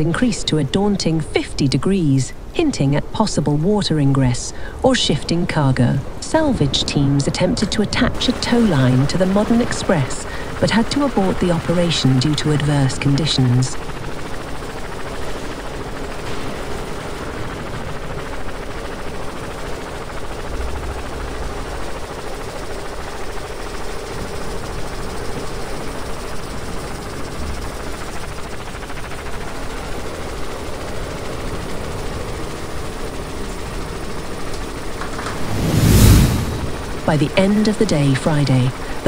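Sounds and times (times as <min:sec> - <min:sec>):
helicopter hovering: 0:00.0 - 0:39.0.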